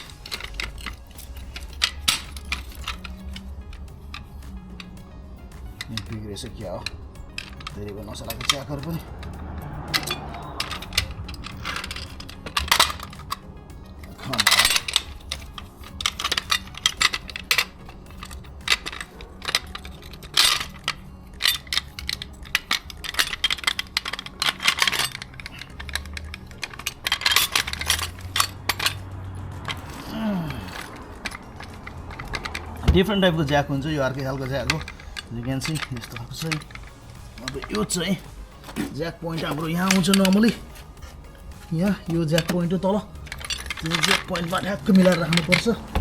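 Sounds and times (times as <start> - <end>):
car jack metallic clicking: 0.0 - 46.0.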